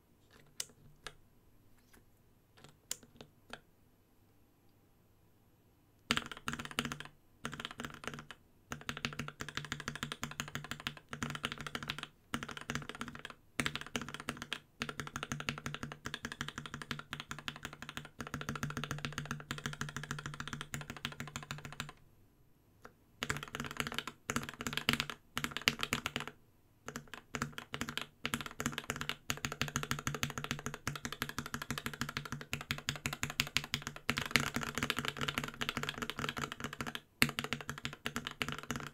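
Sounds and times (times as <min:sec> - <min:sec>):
fast typing on mechanical keyboard: 0:06.1 - 0:22.0, 0:23.2 - 0:38.9.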